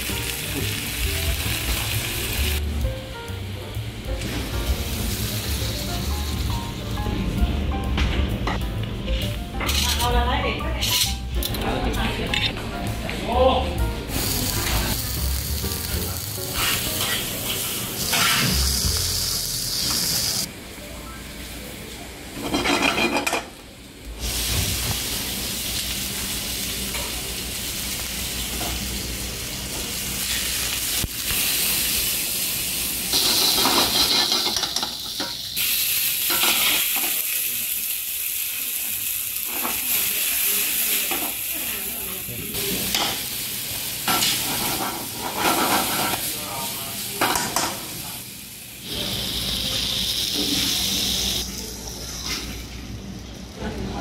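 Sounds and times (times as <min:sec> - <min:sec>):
food sizzling in a frying pan: 0:00.0 - 0:07.3, 0:14.0 - 0:54.0.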